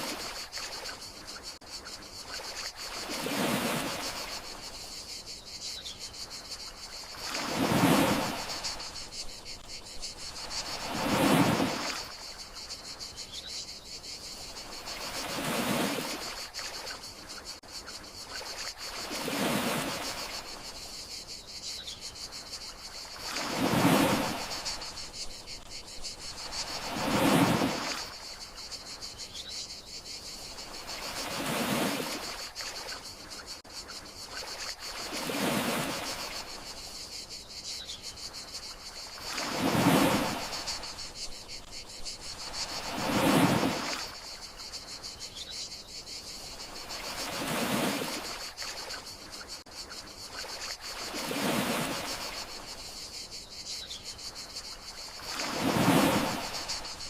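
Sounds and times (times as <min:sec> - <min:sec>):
crickets chirring: 0:00.0 - 0:57.0
gentle sea waves: 0:00.0 - 0:57.0.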